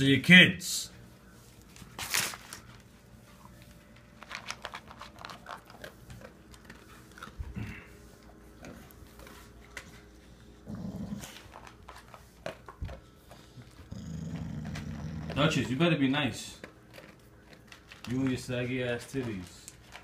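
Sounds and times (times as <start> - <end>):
dogs crunching dry kibble: 1.2 - 20.0.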